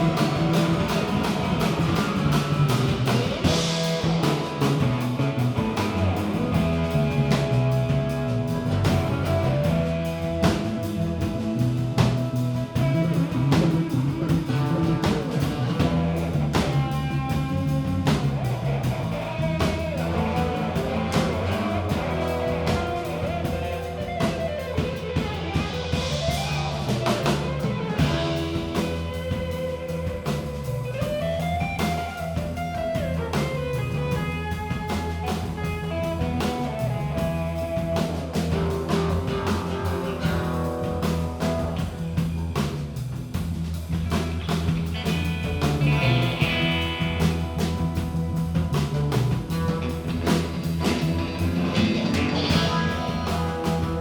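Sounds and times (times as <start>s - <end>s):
electric guitar bending notes: 0.0s - 42.6s, 43.6s - 54.0s
drum kit playing: 0.0s - 54.0s.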